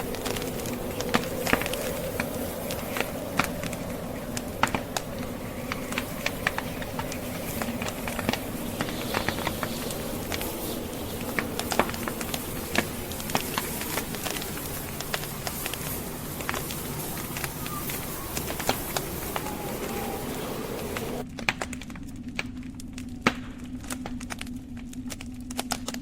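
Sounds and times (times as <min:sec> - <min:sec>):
blizzard wind hum: 0:00.0 - 0:26.0
logs crackling and popping in fireplace: 0:00.0 - 0:26.0.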